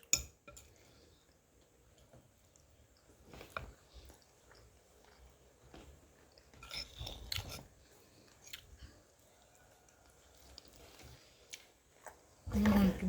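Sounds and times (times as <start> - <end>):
person chewing food: 0.0 - 12.4.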